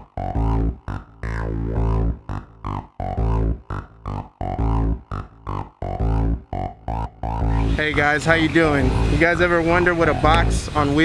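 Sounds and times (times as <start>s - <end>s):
electronic synthesizer music: 0.0s - 11.0s.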